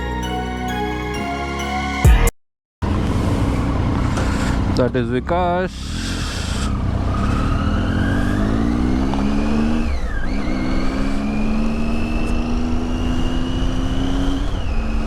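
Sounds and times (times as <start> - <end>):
motorcycle engine accelerating: 2.8 - 15.0.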